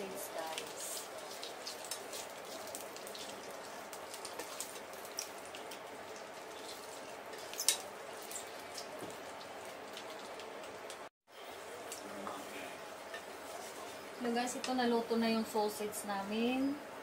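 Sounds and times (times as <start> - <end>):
sausages sizzling in a frying pan: 0.0 - 16.8.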